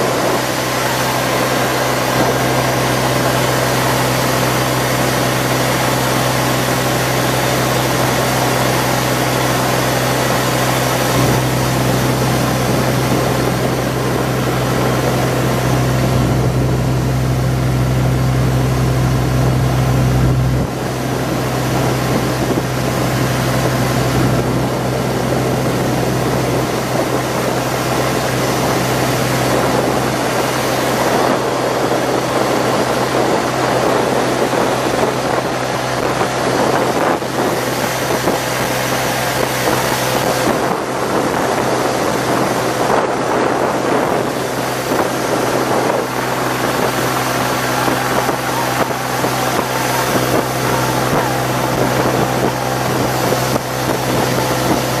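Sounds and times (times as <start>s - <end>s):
boat engine humming: 0.0s - 55.0s
rush of wind and water: 0.0s - 55.0s.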